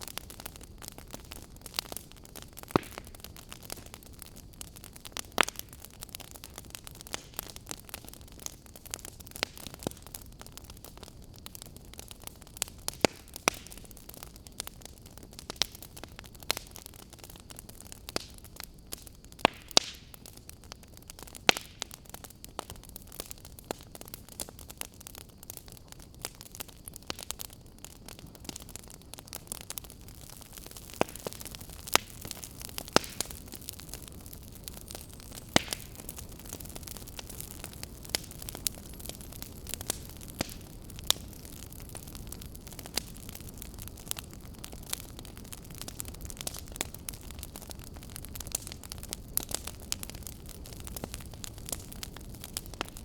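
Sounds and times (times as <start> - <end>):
fire crackling: 0.0 - 53.0.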